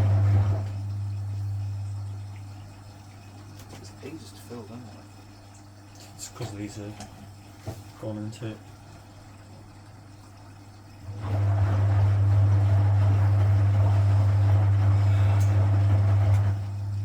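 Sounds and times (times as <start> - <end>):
drum churning laundry: 0.0 - 17.0
washing machine motor humming: 0.0 - 17.0.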